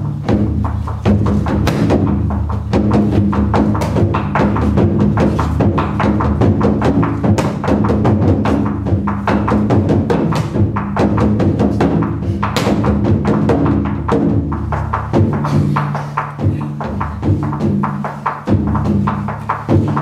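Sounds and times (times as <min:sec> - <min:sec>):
large drum beaten fast: 0:00.0 - 0:20.0.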